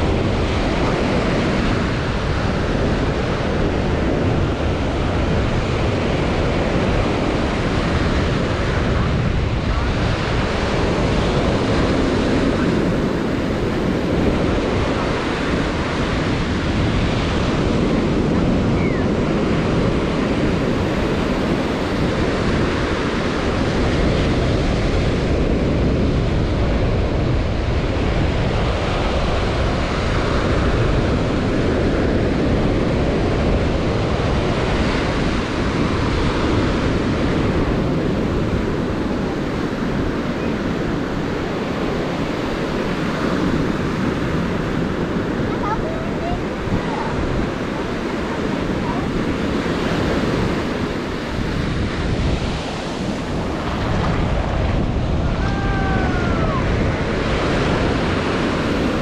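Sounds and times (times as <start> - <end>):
ocean surf washing up beach: 0.0 - 59.0
wind rumble on microphone: 0.0 - 59.0.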